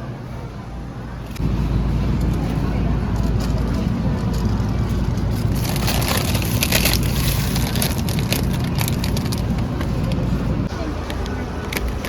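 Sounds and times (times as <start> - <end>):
supermarket background rumble: 0.0 - 12.0.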